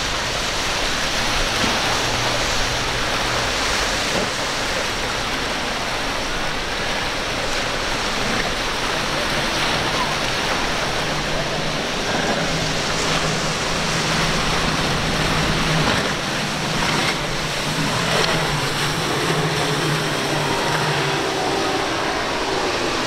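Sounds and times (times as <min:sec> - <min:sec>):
outboard engines humming: 0:00.0 - 0:23.0
waves breaking: 0:00.0 - 0:23.0
wind: 0:00.0 - 0:23.0.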